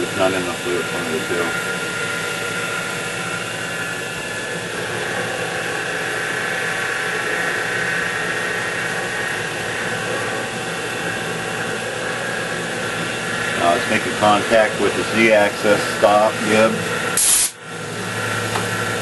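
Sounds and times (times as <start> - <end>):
drill bit cutting metal: 0.0 - 17.6
mill spindle whine: 0.0 - 19.0.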